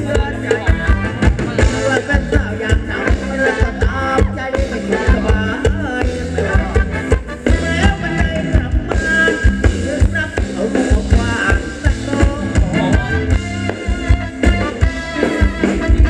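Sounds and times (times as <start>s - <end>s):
live dance band music: 0.0s - 16.0s.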